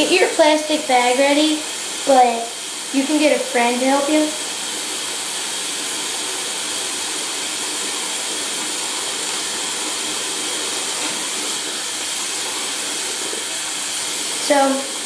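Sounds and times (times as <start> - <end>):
tap water running into sink: 0.0 - 15.0.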